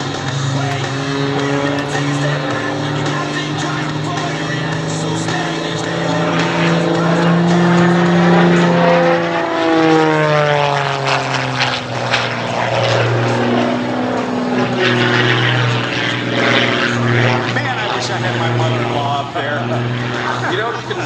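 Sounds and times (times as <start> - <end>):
propeller airplane engine: 0.0 - 21.0.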